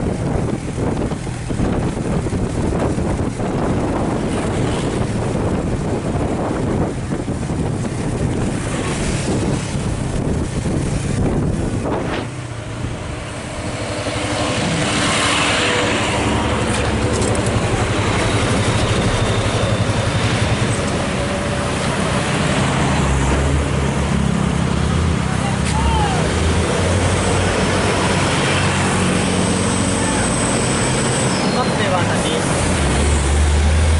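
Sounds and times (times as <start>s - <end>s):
heavy truck engine running: 0.0s - 33.9s.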